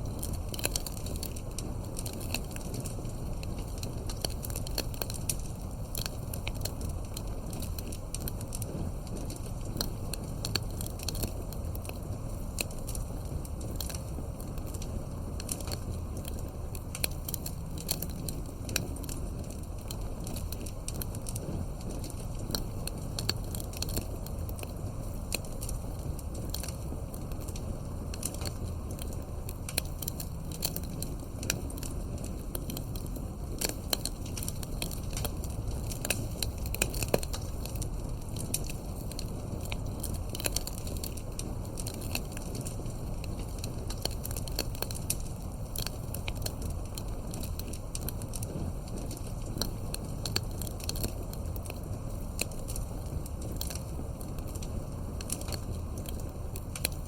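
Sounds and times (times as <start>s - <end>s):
fireplace crackling: 0.0s - 57.0s.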